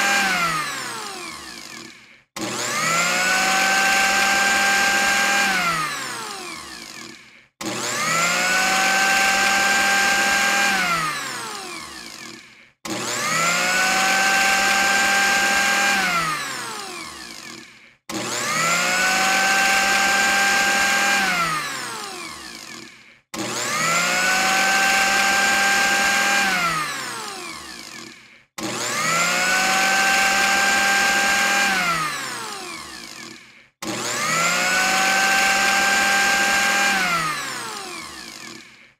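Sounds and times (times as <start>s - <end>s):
electric blender motor whining: 0.0s - 38.9s.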